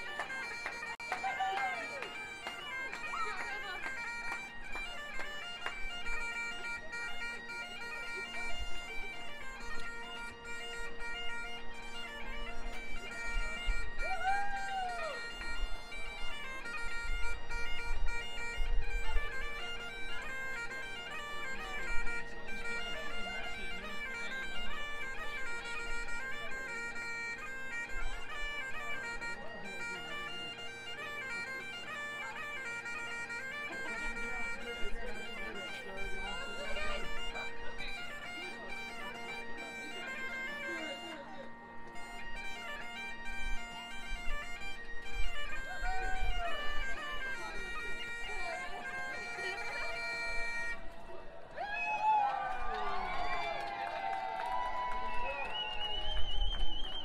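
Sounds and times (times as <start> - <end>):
bagpipes playing a melody: 0.0 - 51.4.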